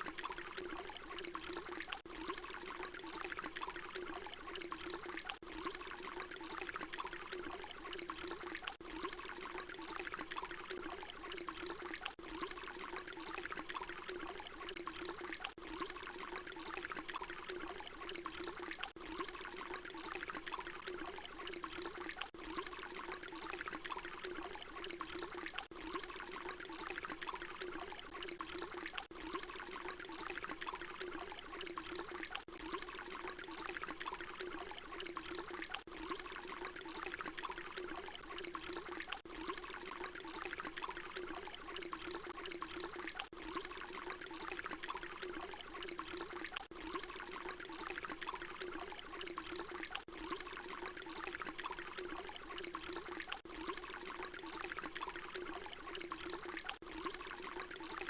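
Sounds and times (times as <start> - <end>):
water pouring and splashing: 0.0 - 58.0.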